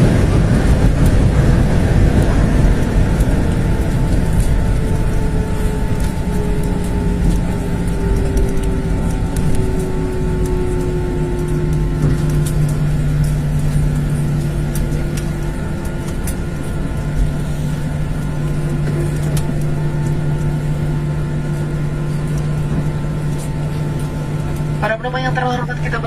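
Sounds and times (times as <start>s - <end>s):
jet engine whines: 0.0s - 26.0s
jet engines humming: 0.0s - 26.0s.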